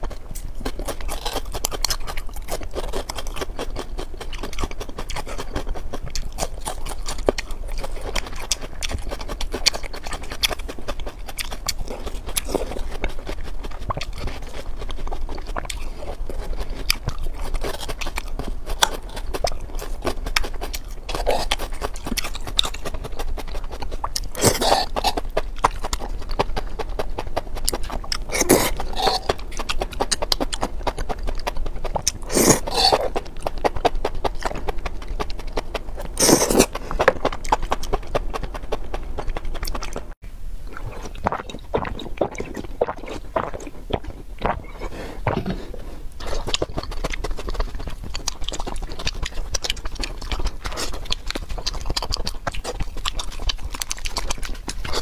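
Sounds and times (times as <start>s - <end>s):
chewing and crunching: 0.0s - 55.0s
wet mouth clicks: 0.1s - 55.0s.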